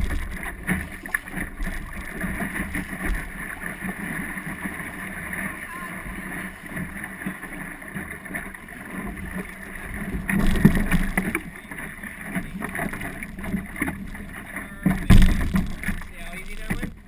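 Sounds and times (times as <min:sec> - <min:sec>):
boat and water noise: 0:00.0 - 0:17.0.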